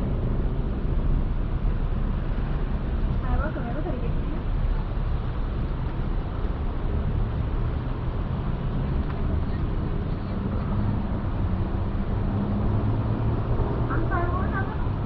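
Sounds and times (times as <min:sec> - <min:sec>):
constant low hum: 0:00.0 - 0:15.0
low engine rumble: 0:00.0 - 0:15.0.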